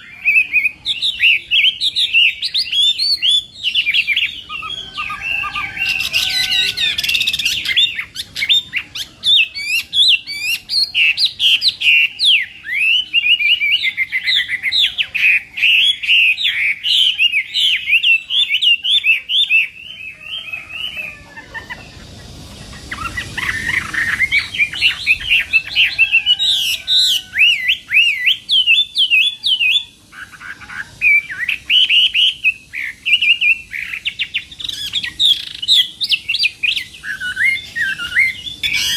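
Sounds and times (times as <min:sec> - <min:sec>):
bird singing whistled phrases: 0:00.0 - 0:22.0, 0:22.8 - 0:38.9.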